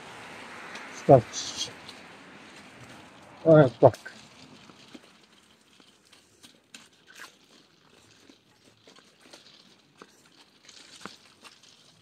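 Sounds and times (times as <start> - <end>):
faint ticks and rustles: 0.6 - 12.0.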